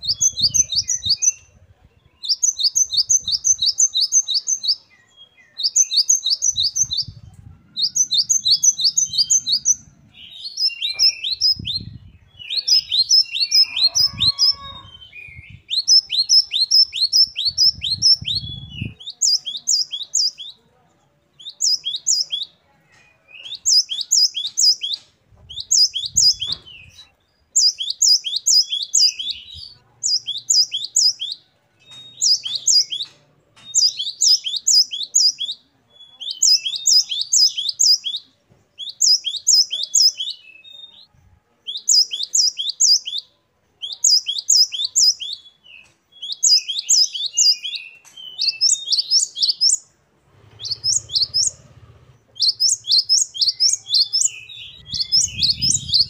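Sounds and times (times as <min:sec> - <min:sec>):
great tit singing: 0:00.0 - 0:20.6, 0:21.3 - 0:56.0.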